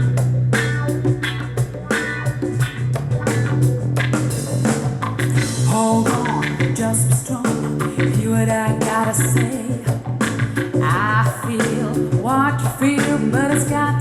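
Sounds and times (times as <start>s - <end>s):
pop-rock song: 0.0s - 14.0s.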